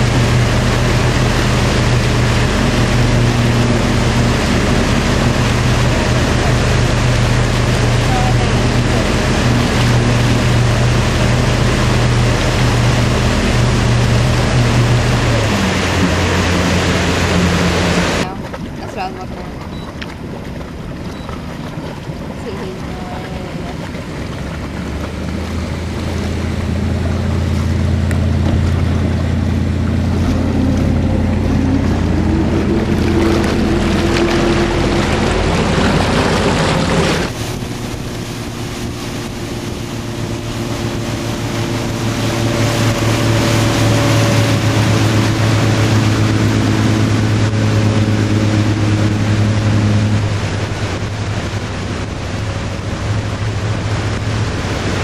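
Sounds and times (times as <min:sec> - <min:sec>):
motorboat engine running: 0:00.0 - 0:55.0
water rushing past hull: 0:00.0 - 0:55.0.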